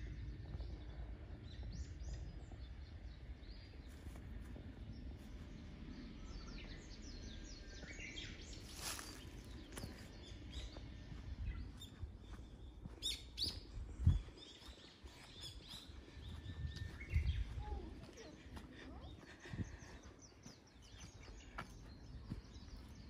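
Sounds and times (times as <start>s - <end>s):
low steady rumble: 0.0s - 23.0s
songbirds chirping: 0.0s - 23.0s.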